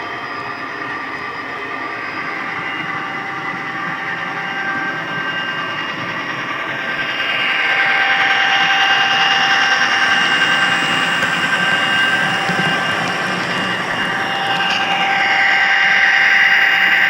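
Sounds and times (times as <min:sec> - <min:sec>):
model locomotive engine drone: 0:00.0 - 0:17.0.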